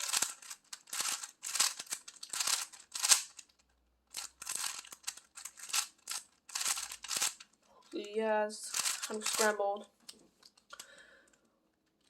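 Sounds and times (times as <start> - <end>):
puzzle cube plastic clacking: 0.0 - 12.0.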